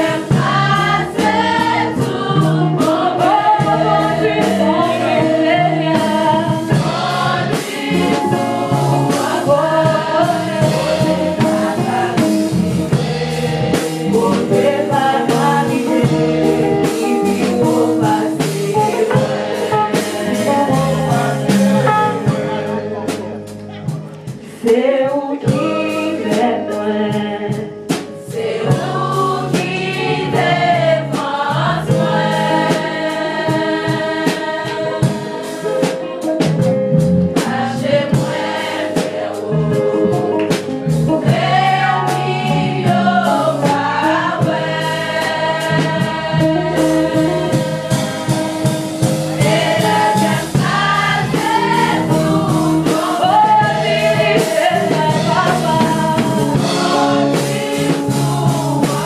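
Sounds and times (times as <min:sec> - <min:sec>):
steady percussive beat: 0:00.0 - 0:24.4, 0:28.0 - 0:59.0
gospel choir singing: 0:00.0 - 0:59.0
instrumental backing: 0:00.0 - 0:59.0.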